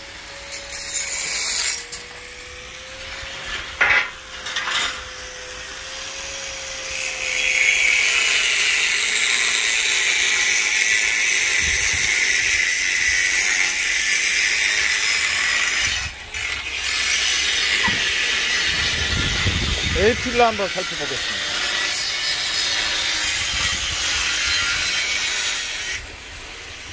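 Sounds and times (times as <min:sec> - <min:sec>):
power tool grinding steel: 0:00.0 - 0:26.9.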